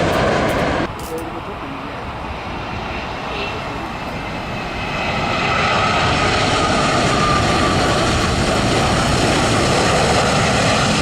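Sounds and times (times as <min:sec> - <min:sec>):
jet engine roar: 0:00.0 - 0:11.0
jet engine whine: 0:00.0 - 0:11.0.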